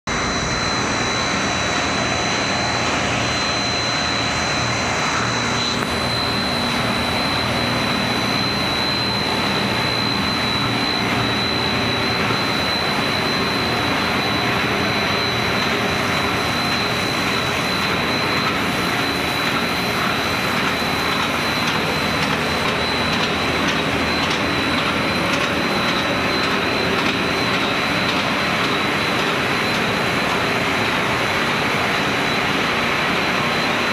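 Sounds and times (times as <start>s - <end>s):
high-pitched machine whine: 0.0s - 33.9s
production line machinery roaring: 0.1s - 33.9s.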